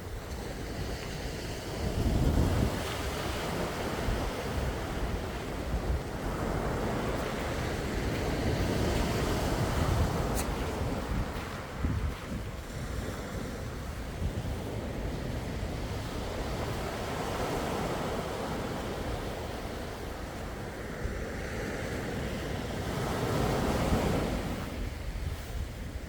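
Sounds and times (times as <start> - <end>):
sea waves washing in: 0.0 - 26.0
wind rumble on microphone: 0.0 - 26.0.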